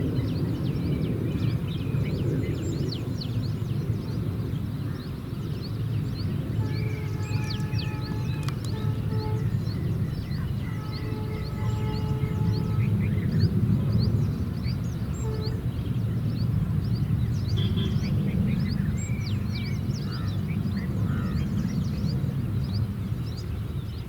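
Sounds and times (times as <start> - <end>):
birds chirping: 0.1 - 24.0
distant diesel locomotive rumble: 1.4 - 24.0.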